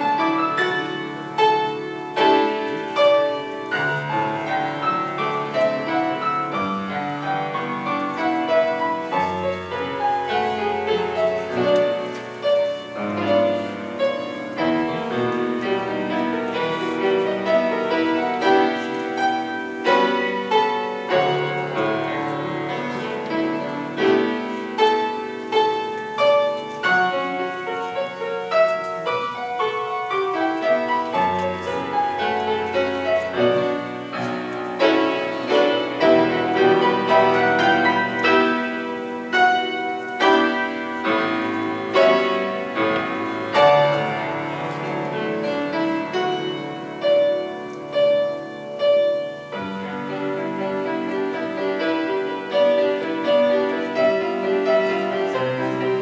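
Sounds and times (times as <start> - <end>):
grand piano classical piece: 0.0 - 56.0.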